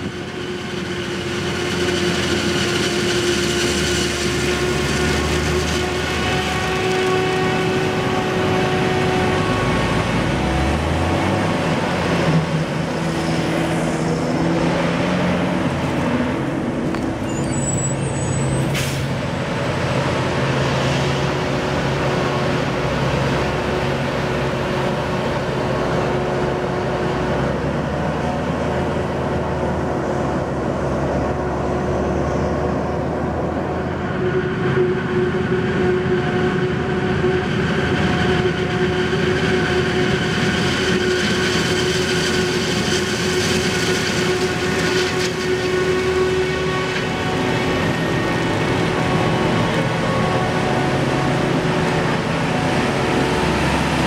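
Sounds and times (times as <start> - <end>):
tractor engine: 0.0 - 54.0.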